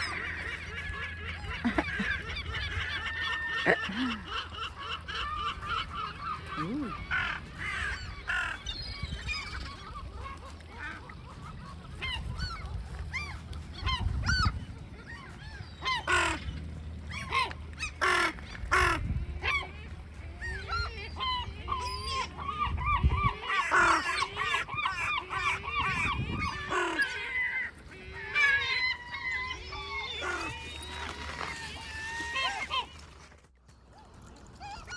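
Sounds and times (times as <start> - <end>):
seagulls calling: 0.0 - 34.9.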